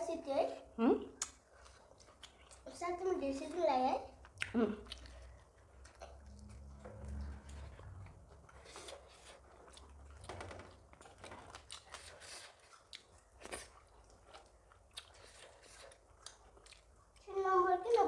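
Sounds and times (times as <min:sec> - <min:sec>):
chewing and mouth smacks: 0:01.2 - 0:02.8, 0:04.1 - 0:17.3.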